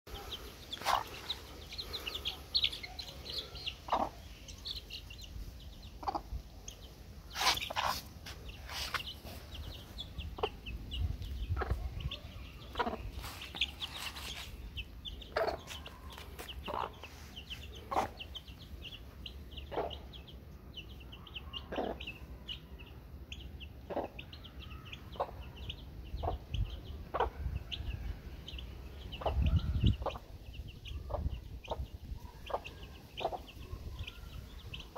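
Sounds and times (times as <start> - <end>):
hen clucking: 0.1 - 5.2, 5.8 - 20.3, 21.1 - 22.6, 23.3 - 27.5, 29.1 - 34.9
chicks peeping: 0.1 - 34.9.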